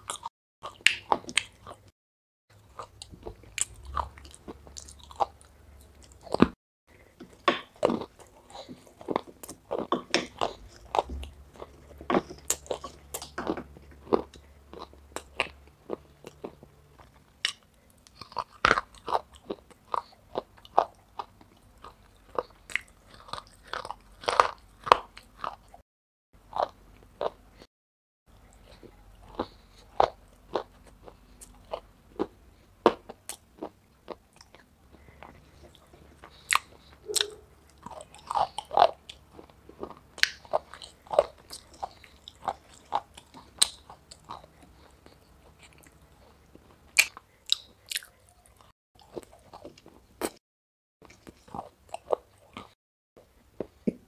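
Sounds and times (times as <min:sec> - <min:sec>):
crunchy biting and wet chewing: 0:02.6 - 0:06.6, 0:07.6 - 0:25.8, 0:28.4 - 0:50.4.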